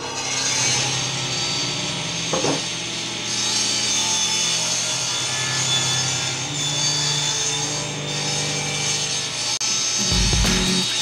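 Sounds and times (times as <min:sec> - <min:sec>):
saw blade cutting wood: 0:00.0 - 0:11.0
table saw motor hum: 0:00.0 - 0:11.0.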